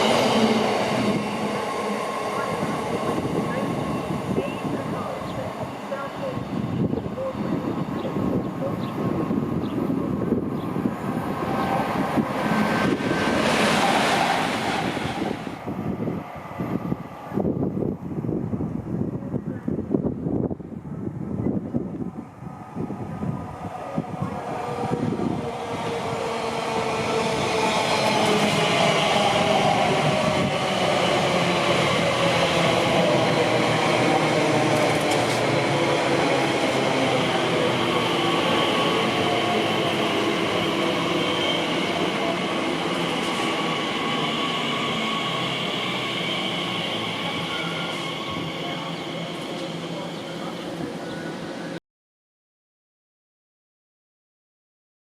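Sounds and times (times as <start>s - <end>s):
train rumbling: 0.0s - 51.8s.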